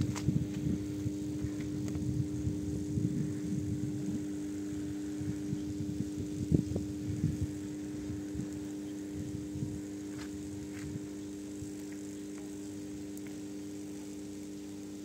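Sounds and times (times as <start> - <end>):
wind buffeting microphone: 0.0 - 12.1
electrical substation hum: 0.0 - 15.0.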